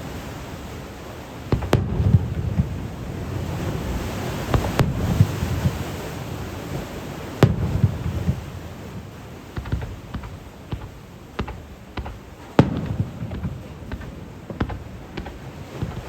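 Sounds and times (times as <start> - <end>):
firework crackles: 1.3 - 16.0
firework booms: 1.5 - 16.0.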